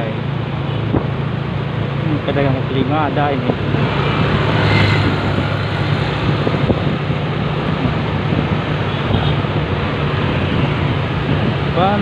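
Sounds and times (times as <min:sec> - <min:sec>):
road noise: 0:00.0 - 0:12.0
wind: 0:00.0 - 0:12.0.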